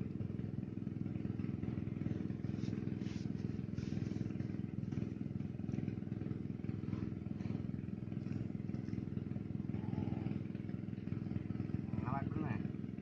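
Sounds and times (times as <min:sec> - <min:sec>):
small engine running steadily: 0:00.0 - 0:13.0.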